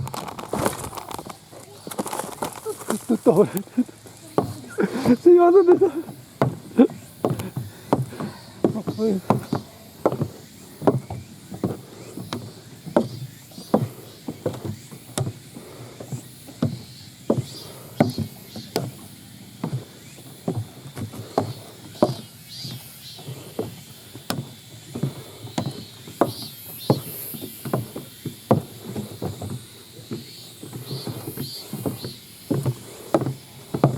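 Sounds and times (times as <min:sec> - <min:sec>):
footsteps on dirt trail: 0:00.0 - 0:33.9.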